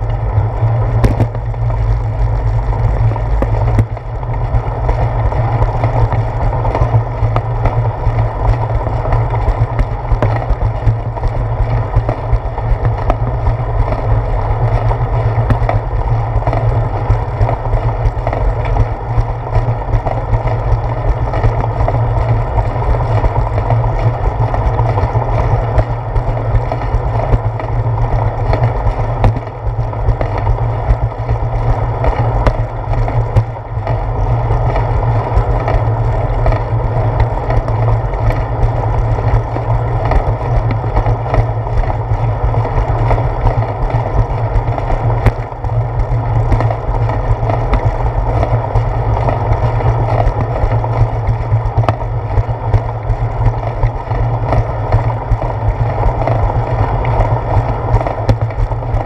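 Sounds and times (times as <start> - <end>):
wind and road noise from bicycle: 0.0 - 59.0.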